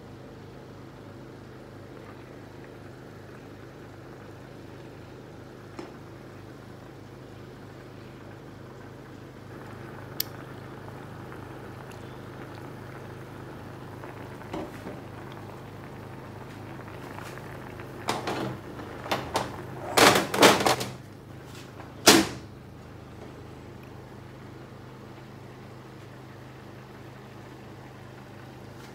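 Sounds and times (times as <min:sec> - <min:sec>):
steady low hum: 0:00.0 - 0:28.9
sauce bubbling in a pan: 0:00.2 - 0:18.8, 0:22.5 - 0:28.9.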